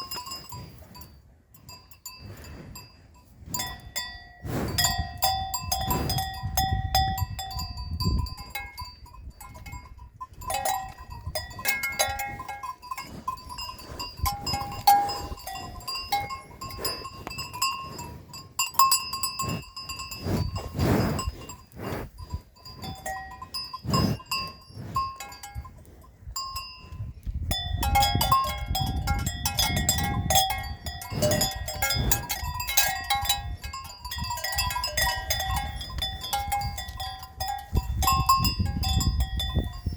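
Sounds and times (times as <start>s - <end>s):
livestock bells clanking: 0.0s - 39.9s.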